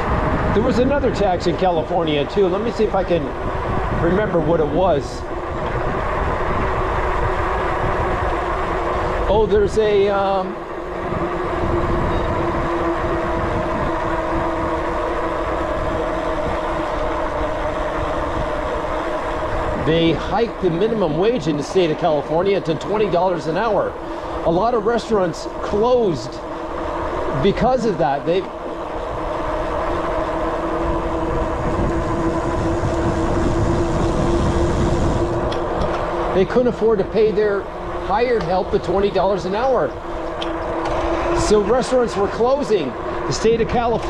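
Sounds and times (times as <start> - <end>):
vehicle road and engine rumble: 0.0 - 44.0.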